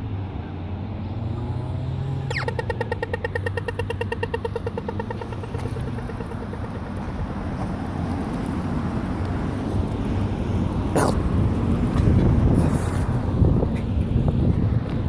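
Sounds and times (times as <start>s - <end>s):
vehicle low rumble: 0.0s - 15.0s.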